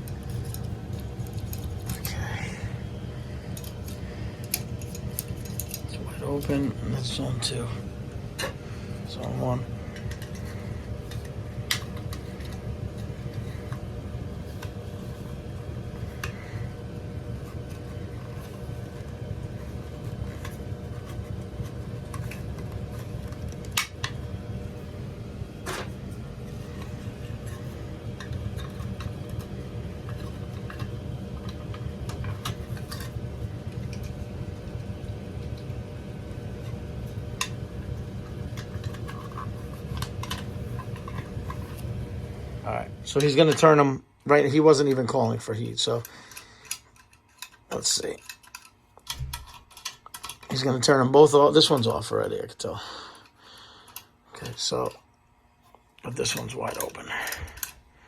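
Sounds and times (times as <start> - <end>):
heating equipment hum: 0.0 - 58.0.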